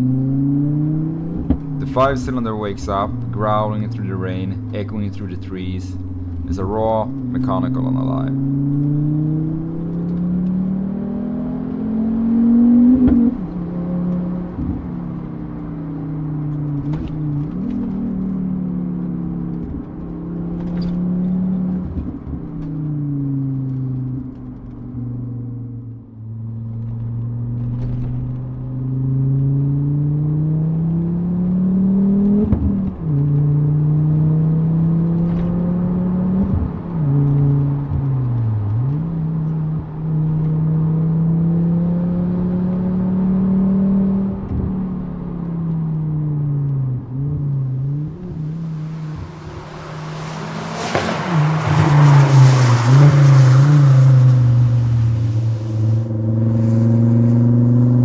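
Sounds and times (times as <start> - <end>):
car engine accelerating through gears: 0.0 - 58.0.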